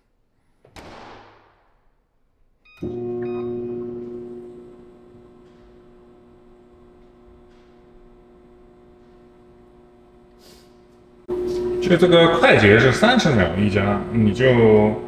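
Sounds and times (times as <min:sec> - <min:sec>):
microwave oven humming: 0:02.8 - 0:15.0.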